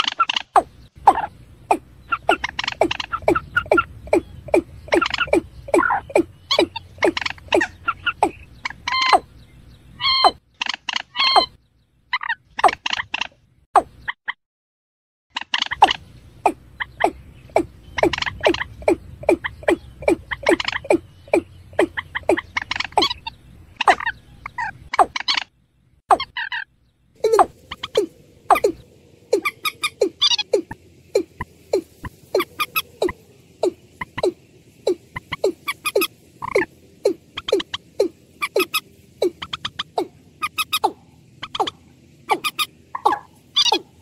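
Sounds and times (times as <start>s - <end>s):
watercock calling: 0.0s - 9.3s, 15.5s - 25.4s, 26.1s - 44.0s
sharp ticking bird notes: 0.0s - 14.3s, 15.3s - 44.0s
low steady hum: 0.7s - 10.2s, 15.8s - 24.9s, 25.6s - 44.0s.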